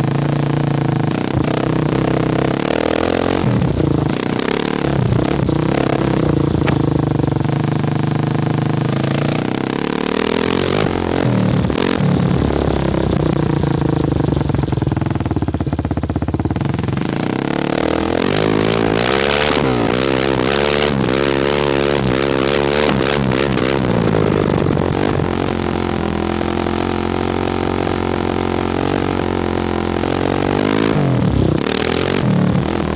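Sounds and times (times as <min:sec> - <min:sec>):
atv engine revving: 0:00.0 - 0:32.9
exhaust backfiring and popping: 0:00.0 - 0:32.9.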